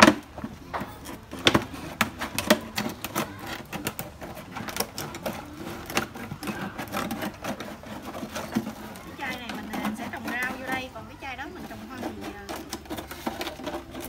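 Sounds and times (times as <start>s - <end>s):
scissors snipping plastic: 0.0s - 14.0s
stiff plastic crackling: 0.0s - 14.0s.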